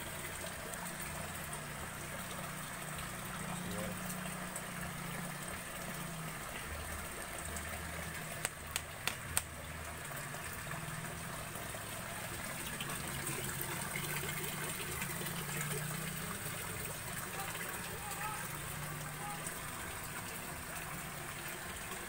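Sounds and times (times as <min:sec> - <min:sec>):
water splashing in a tank: 0:00.0 - 0:22.0.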